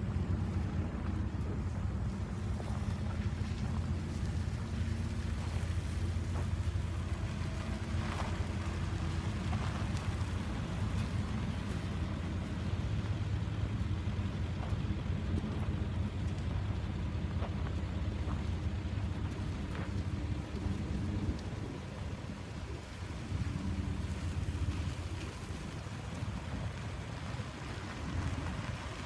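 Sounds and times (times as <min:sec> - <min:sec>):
pickup engine low hum: 0:00.0 - 0:29.0
tyres crackling on gravel: 0:00.0 - 0:29.0.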